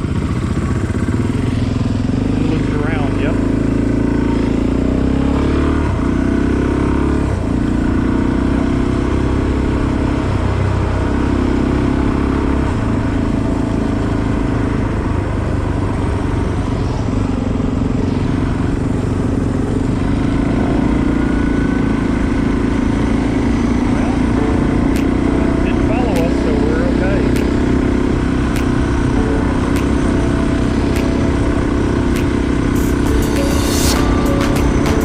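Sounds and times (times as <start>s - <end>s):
low rumble and rushing noise: 0.0s - 35.0s
motorcycle engine running: 0.0s - 35.0s.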